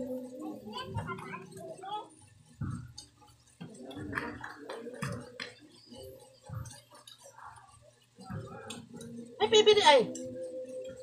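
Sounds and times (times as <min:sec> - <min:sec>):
faint voices murmuring: 0:00.0 - 0:11.0.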